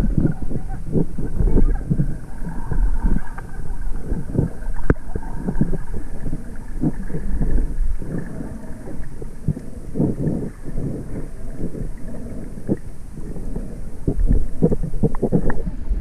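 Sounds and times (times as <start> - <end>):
underwater water rumbles: 0.0 - 16.0.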